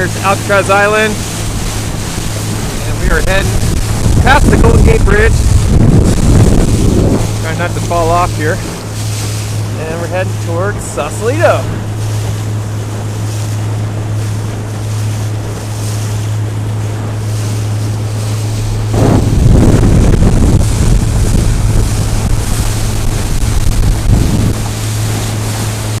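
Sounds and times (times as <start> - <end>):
boat engine droning: 0.0 - 26.0
water rushing past hull: 0.0 - 26.0
wind buffeting microphone: 0.0 - 26.0.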